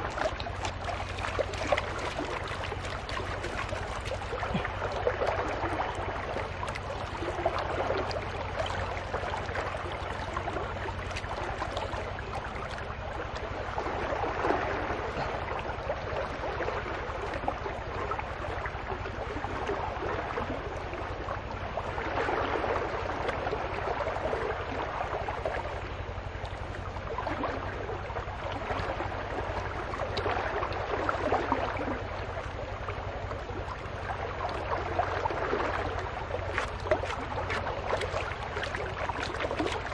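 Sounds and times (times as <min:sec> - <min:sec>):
steady low rumble: 0:00.0 - 0:39.9
water sloshing in a pan: 0:00.0 - 0:39.9.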